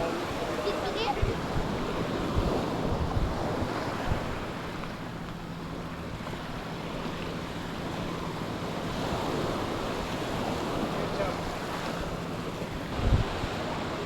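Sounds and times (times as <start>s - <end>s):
wind buffeting microphone: 0.0s - 5.3s, 6.0s - 14.0s
sea waves washing onto beach: 0.0s - 14.0s.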